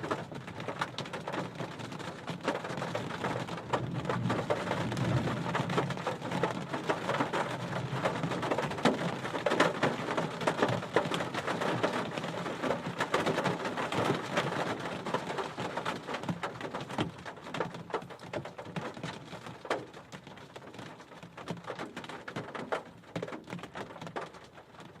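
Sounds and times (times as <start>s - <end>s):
heavy rain on a car roof: 0.0s - 25.0s.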